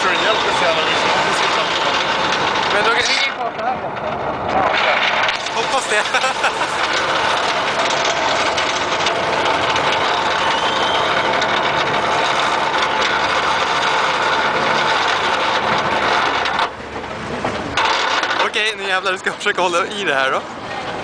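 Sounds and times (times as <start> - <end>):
roller coaster chain lift rattle: 0.0 - 21.0.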